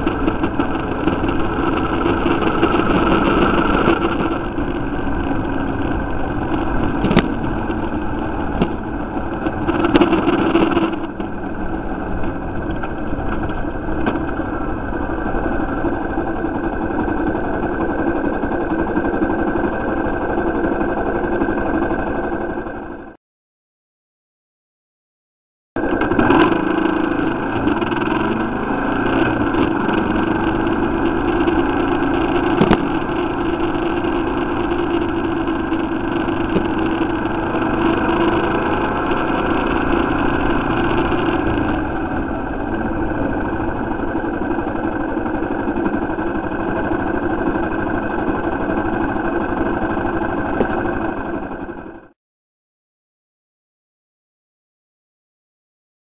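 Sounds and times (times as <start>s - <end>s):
motorcycle engine running: 0.0s - 23.2s, 25.8s - 52.1s.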